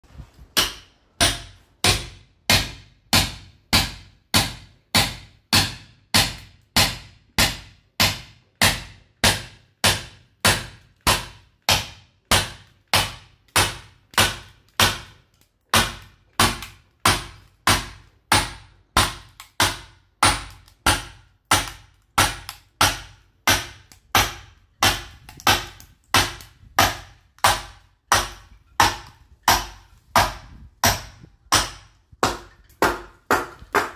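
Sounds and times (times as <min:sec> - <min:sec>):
sledgehammer striking steel chisel: 0:00.5 - 0:33.9.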